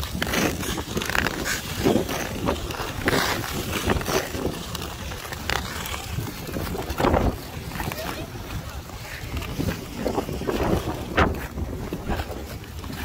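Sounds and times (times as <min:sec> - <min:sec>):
ice skates scraping on ice: 0:00.0 - 0:13.0
wind rumble on microphone: 0:00.0 - 0:13.0.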